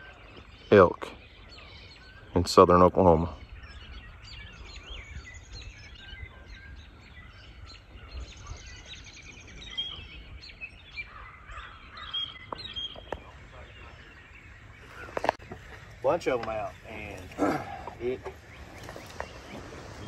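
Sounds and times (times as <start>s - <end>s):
small birds chirping and singing: 0.0s - 20.0s.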